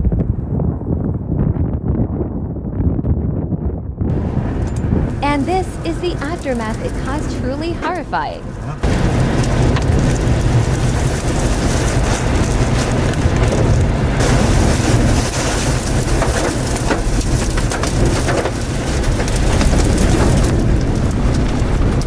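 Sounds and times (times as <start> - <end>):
heavy rain falling: 4.1 - 22.0.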